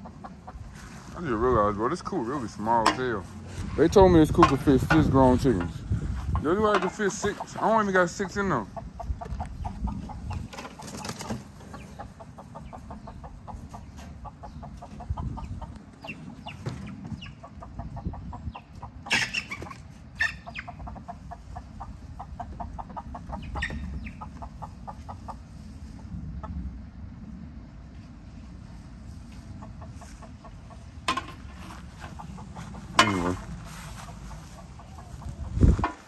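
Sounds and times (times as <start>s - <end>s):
hens clucking: 0.0s - 36.0s.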